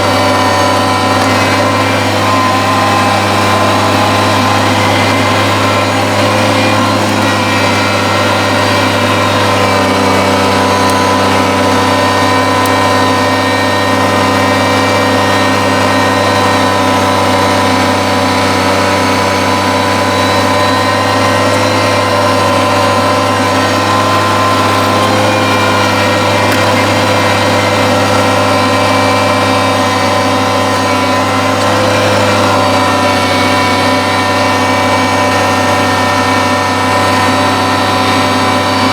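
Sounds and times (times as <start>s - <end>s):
snowblower running: 0.0s - 38.9s
tractor diesel engine running: 0.0s - 38.9s.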